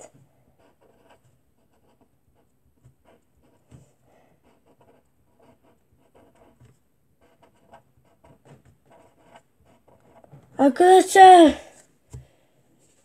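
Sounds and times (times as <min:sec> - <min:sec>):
pen scratching on paper: 0:00.0 - 0:10.6.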